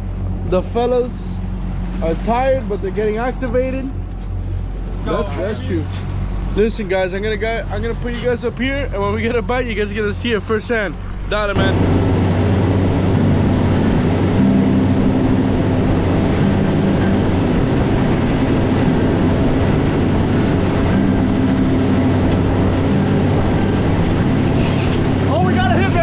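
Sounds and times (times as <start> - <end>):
outboard engines droning: 0.0 - 26.0
rushing water: 0.0 - 26.0
wind: 0.0 - 26.0.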